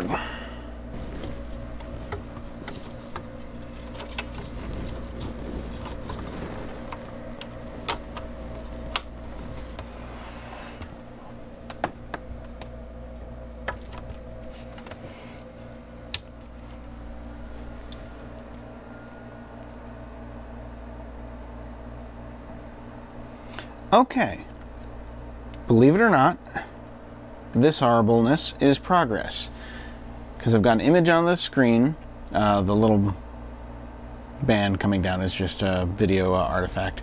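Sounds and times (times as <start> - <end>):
low electrical buzz: 0.0 - 37.0.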